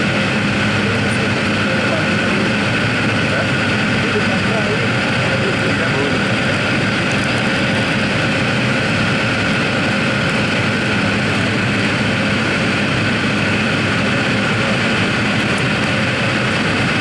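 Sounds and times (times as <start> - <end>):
airliner engine drone in cabin: 0.0 - 17.0.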